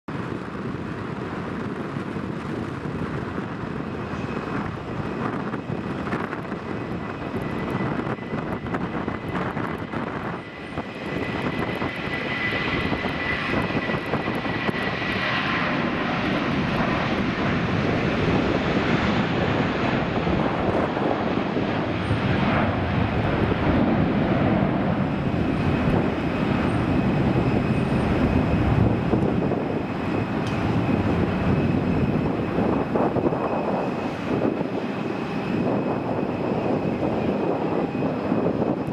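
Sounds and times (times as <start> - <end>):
jet engines at takeoff: 0.1 - 38.9.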